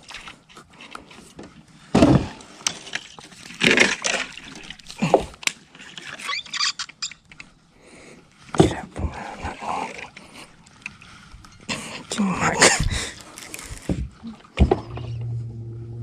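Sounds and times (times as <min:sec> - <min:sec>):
water splashing and sloshing: 0:00.0 - 0:15.7.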